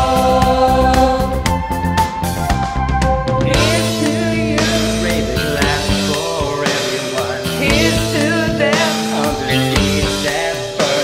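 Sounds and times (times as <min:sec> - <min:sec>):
people singing: 0:00.0 - 0:01.7, 0:03.4 - 0:11.0
pop backing music: 0:00.0 - 0:11.0
steady drum beat: 0:00.0 - 0:11.0.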